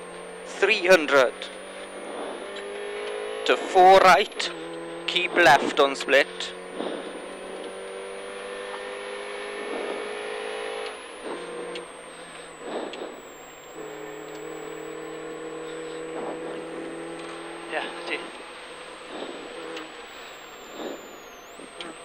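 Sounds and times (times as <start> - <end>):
car engine heard from inside: 0.0 - 22.0.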